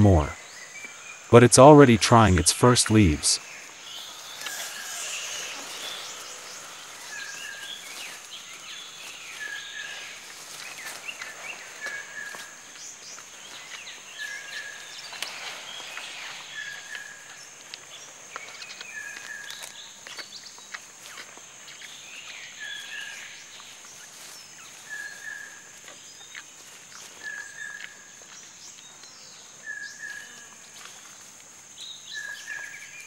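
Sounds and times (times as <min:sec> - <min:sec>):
high insect drone: 0:00.1 - 0:01.3, 0:03.0 - 0:33.0.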